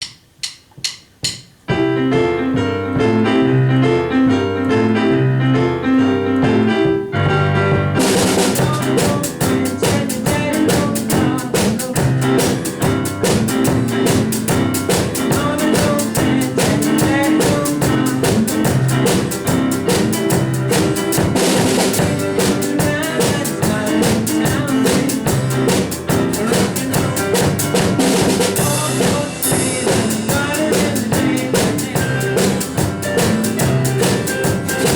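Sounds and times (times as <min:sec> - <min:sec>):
rock band playing live: 0:01.7 - 0:34.9.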